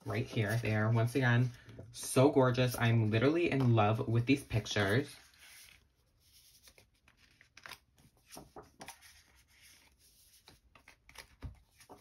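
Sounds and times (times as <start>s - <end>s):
photo prints rustling: 0.0s - 12.0s.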